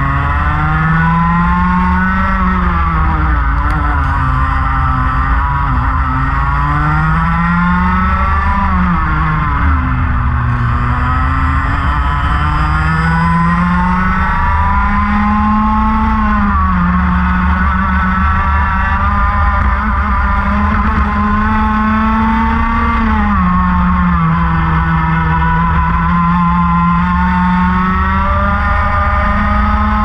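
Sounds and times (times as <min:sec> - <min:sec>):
racing kart engines: 0:00.0 - 0:30.0.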